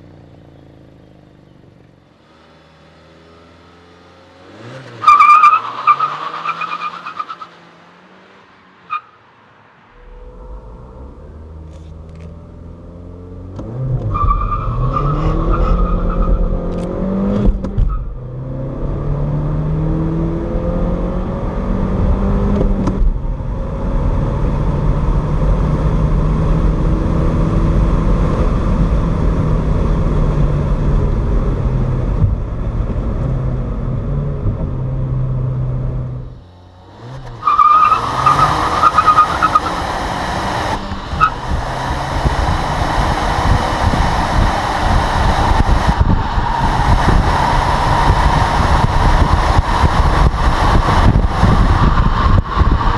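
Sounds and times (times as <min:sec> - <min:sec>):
car engine accelerating hard: 0:00.0 - 0:09.0, 0:09.8 - 0:52.9
wind and road noise rushing: 0:02.2 - 0:52.9.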